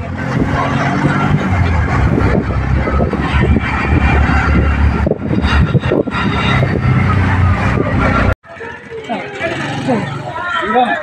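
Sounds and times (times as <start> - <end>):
auto-rickshaw engine running: 0.0 - 11.0
road noise: 0.0 - 11.0.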